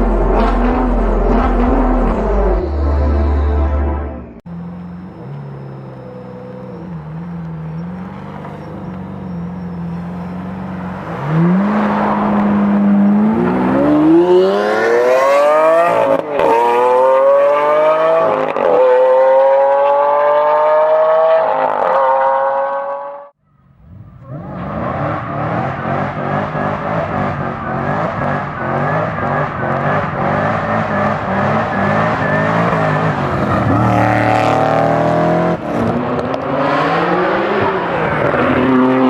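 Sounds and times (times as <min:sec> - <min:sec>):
sports car engine accelerating: 0:00.0 - 0:39.0.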